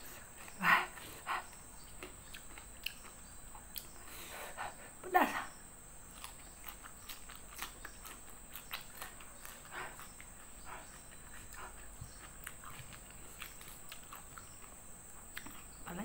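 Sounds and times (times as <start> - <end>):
chewing with mouth clicks: 0.1 - 4.2, 6.0 - 15.8.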